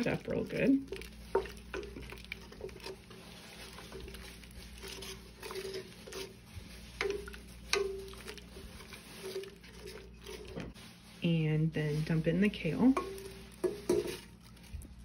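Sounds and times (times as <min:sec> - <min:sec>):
soup sloshing: 0:00.0 - 0:11.2, 0:11.8 - 0:15.0.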